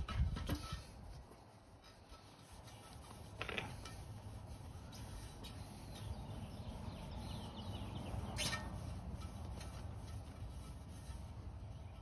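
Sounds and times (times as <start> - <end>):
cloth rag rubbing metal rim: 0.0 - 12.0.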